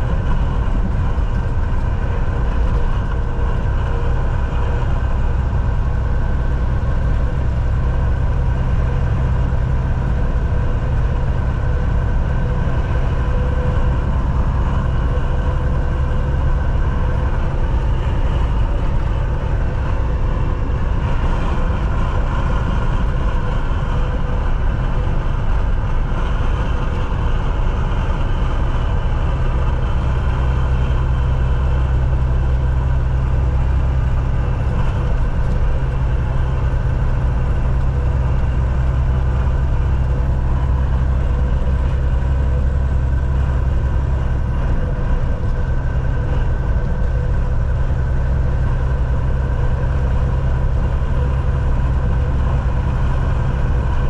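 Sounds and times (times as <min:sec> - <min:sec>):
truck engine drone: 0:00.0 - 0:54.0.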